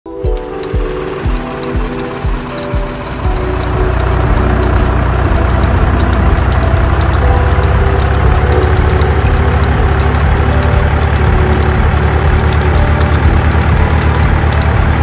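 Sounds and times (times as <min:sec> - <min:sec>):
music: 0:00.1 - 0:15.0
engine idling: 0:00.6 - 0:15.0.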